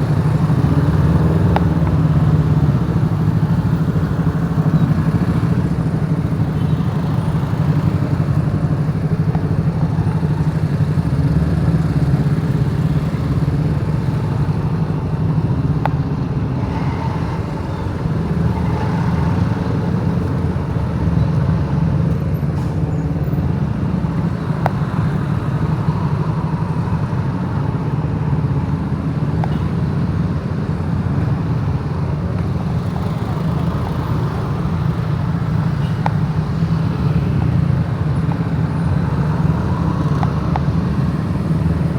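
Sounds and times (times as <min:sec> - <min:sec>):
road and traffic noise: 0:00.0 - 0:41.9.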